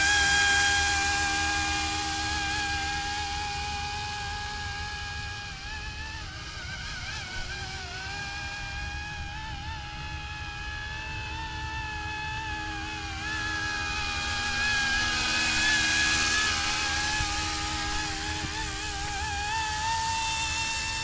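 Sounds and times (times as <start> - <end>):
rc helicopter motor whine: 0.0 - 21.0.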